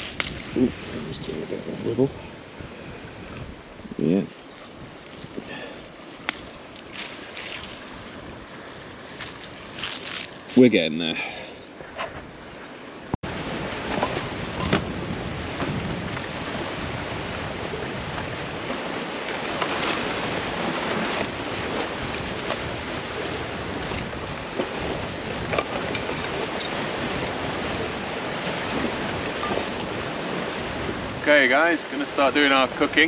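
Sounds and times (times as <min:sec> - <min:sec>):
wind buffeting microphone: 0:00.0 - 0:10.7, 0:11.7 - 0:33.0.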